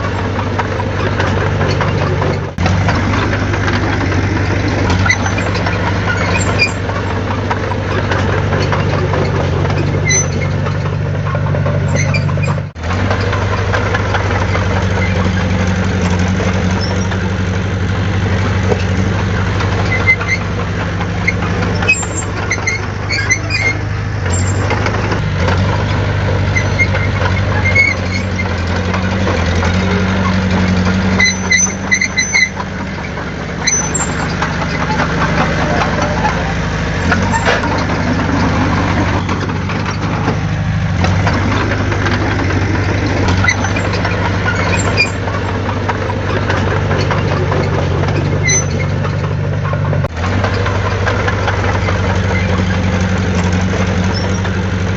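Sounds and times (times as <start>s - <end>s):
heavy diesel engine under load: 0.0s - 54.9s.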